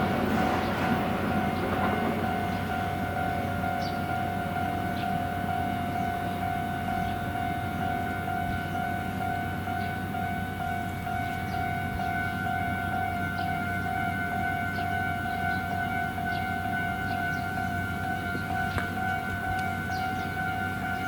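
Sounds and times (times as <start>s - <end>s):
level crossing warning bell: 0.0s - 21.0s
train rumbling past: 0.0s - 21.0s.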